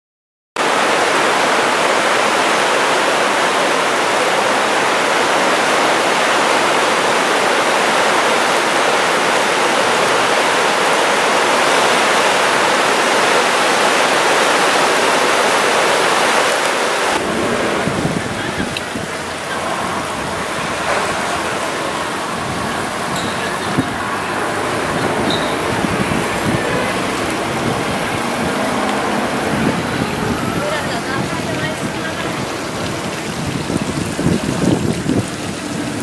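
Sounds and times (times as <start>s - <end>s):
water rushing over rocks: 0.6s - 36.0s.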